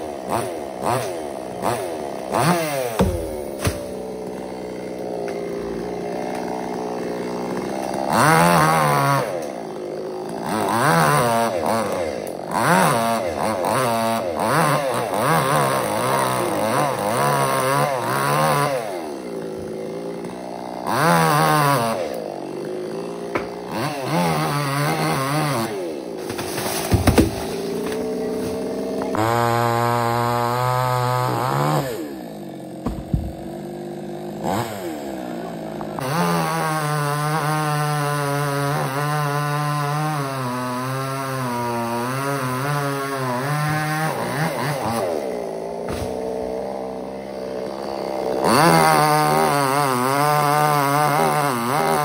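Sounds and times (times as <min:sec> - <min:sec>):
chainsaw engine revving: 0:00.0 - 0:52.0.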